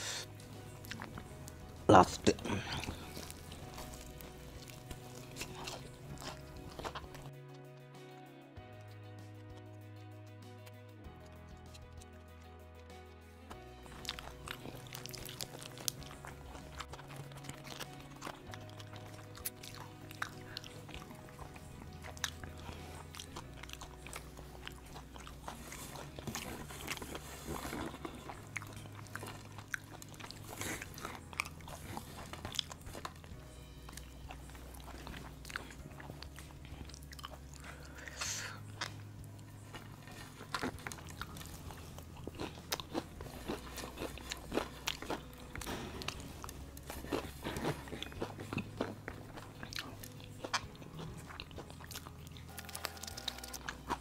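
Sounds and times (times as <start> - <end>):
crunching and chewing fried chicken: 0.0 - 7.3, 13.5 - 54.0
quiet background music with bass: 0.0 - 54.0.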